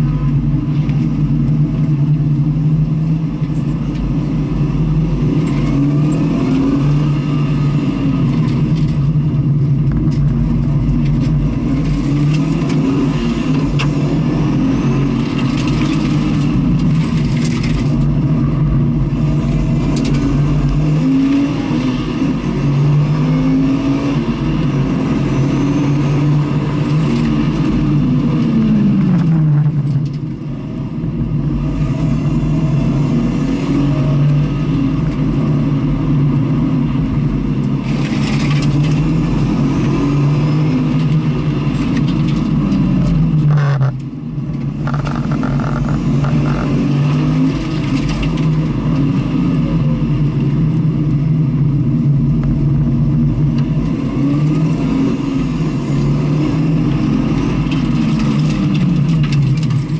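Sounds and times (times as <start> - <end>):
racing engine revving and shifting: 0.0 - 30.3, 31.3 - 59.9
wind and road noise: 0.0 - 59.9.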